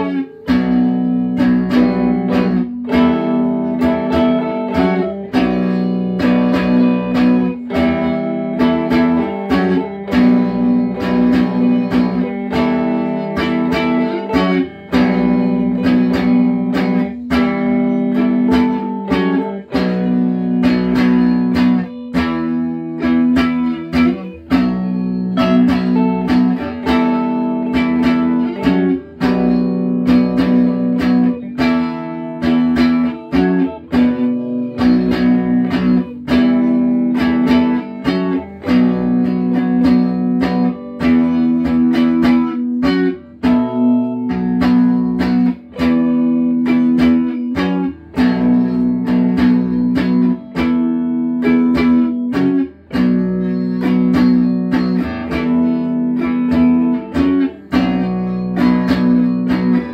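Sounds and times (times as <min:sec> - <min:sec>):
clean electric guitars playing: 0:00.0 - 0:59.9.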